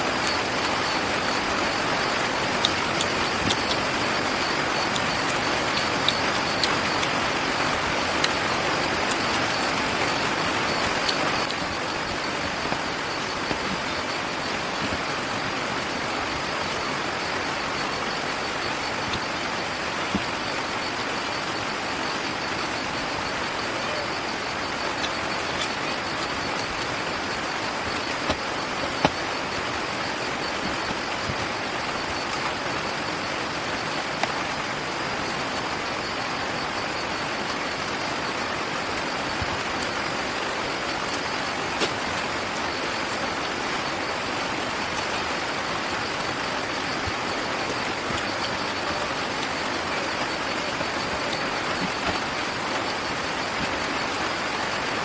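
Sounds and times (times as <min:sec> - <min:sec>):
steady hiss-like background noise: 0:00.0 - 0:55.0.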